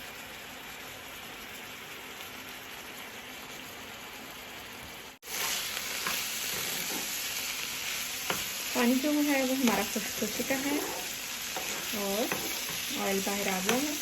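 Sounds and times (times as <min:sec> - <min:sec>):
oil frying sizzle: 0:00.0 - 0:14.0.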